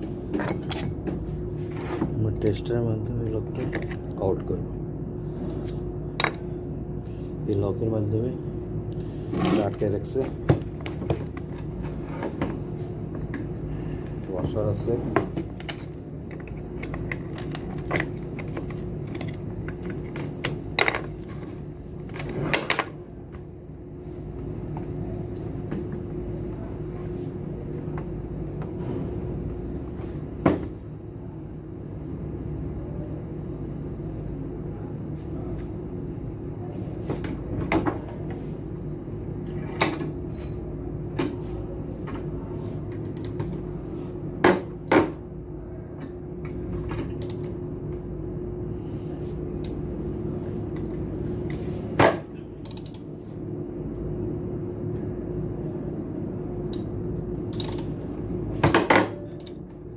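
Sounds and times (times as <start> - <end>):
steady background hum: 0.0 - 59.9.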